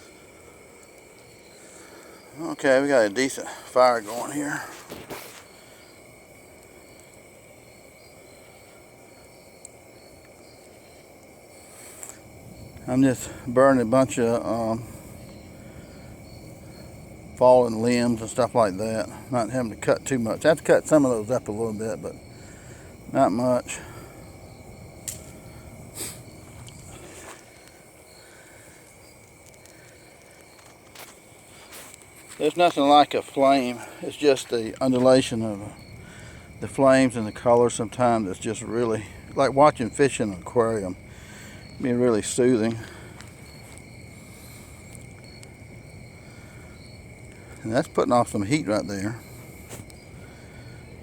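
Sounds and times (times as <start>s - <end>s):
campfire pop: 0.0s - 51.0s
crickets chirring: 0.0s - 51.0s
high-pitched insect calls: 0.0s - 51.0s.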